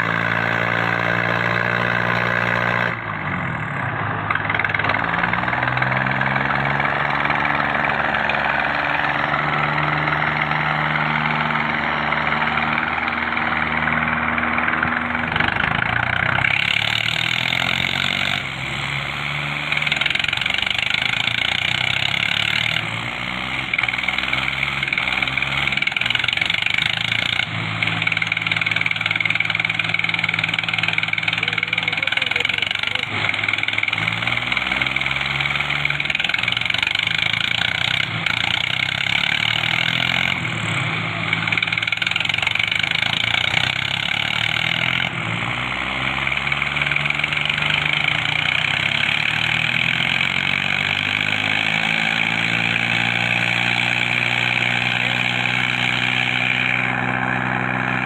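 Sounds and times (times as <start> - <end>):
tractor engines revving: 0.0 - 58.0.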